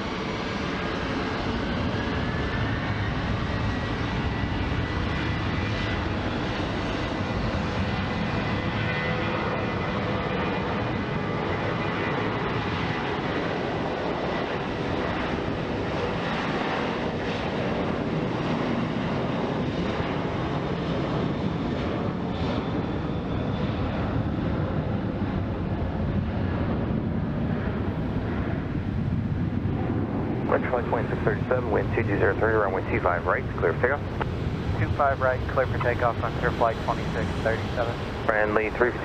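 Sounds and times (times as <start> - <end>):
jet airliner engine noise: 0.0 - 39.0.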